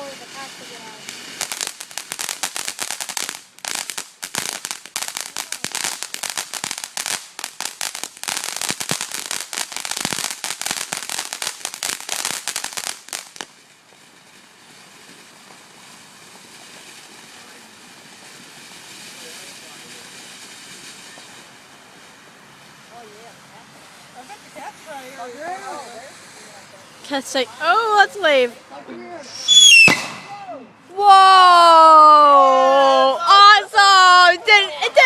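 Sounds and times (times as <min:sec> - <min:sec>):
faint steady hiss: 0:00.0 - 0:35.0
firework crackling: 0:00.0 - 0:35.0.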